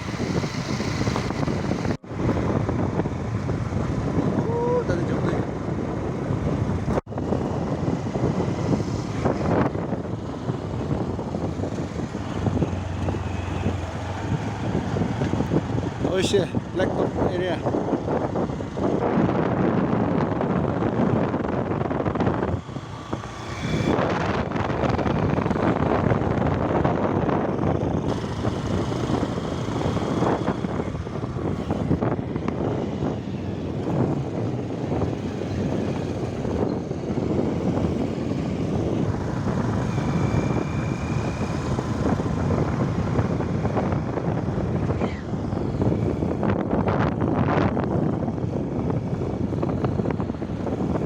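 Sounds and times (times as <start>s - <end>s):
motorcycle engine running: 0.0s - 51.0s
wind rushing over microphone: 0.0s - 51.0s.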